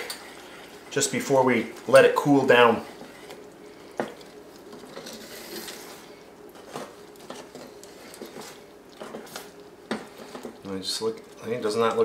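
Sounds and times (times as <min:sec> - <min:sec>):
sauce bubbling: 0:00.0 - 0:12.0.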